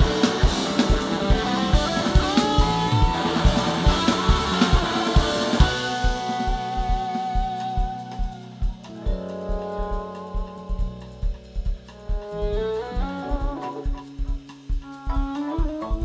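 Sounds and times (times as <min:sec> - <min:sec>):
long held lead guitar note: 0:00.0 - 0:16.0
rock band playing: 0:00.0 - 0:16.0
steady drum beat: 0:00.0 - 0:16.0.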